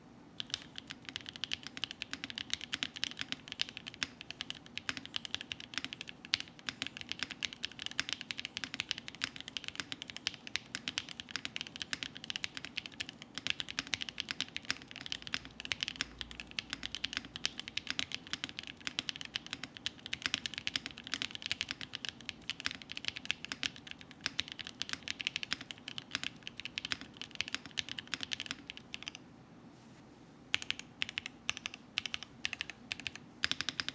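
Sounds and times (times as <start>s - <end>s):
mechanical keyboard typing: 0.4s - 29.2s, 30.5s - 33.9s.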